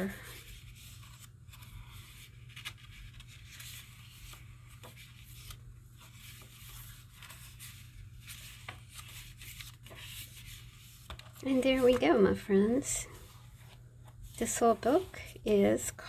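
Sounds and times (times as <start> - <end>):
low steady hum: 0.0 - 16.0
paper pages rustling: 0.0 - 16.0.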